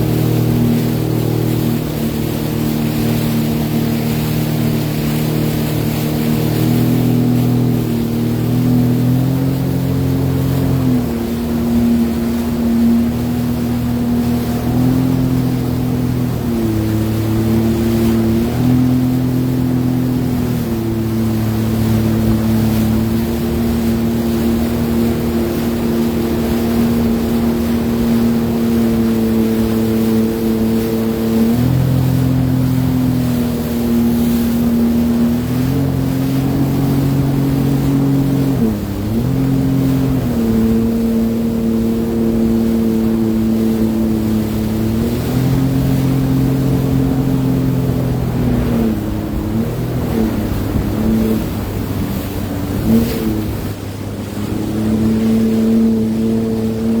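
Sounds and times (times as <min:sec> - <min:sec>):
personal watercraft engine running: 0:00.0 - 0:57.0.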